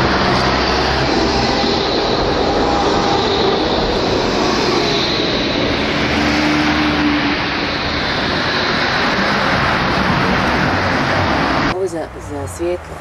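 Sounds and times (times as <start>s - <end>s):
street traffic rumble: 0.0s - 13.0s
tram rolling past: 0.0s - 13.0s.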